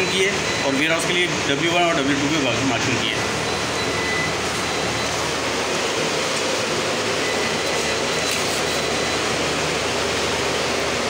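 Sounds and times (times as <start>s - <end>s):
cooling fans rushing: 0.0s - 11.0s.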